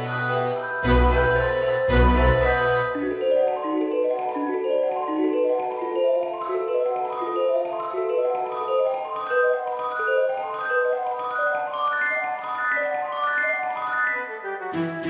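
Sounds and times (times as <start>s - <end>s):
light instrumental melody: 0.0s - 15.0s.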